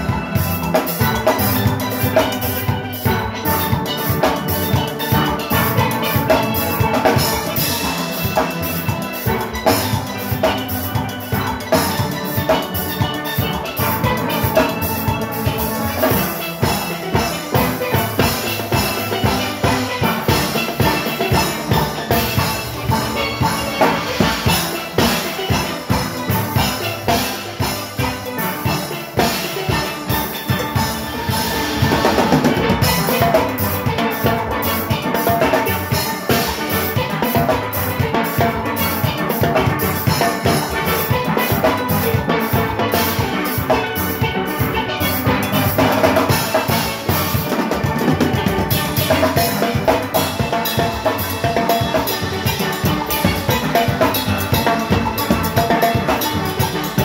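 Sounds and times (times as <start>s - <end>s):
drum kit and cymbals groove: 0.0s - 57.0s
steelpans playing tune: 0.0s - 57.0s.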